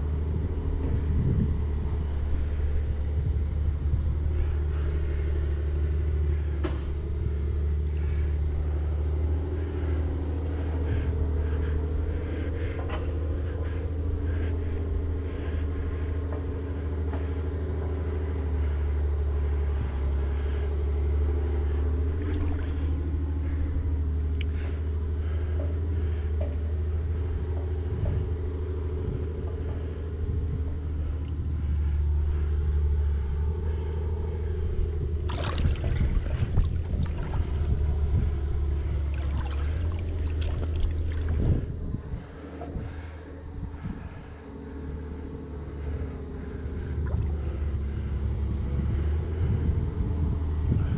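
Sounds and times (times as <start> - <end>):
muffled water rumble: 0.0 - 50.9.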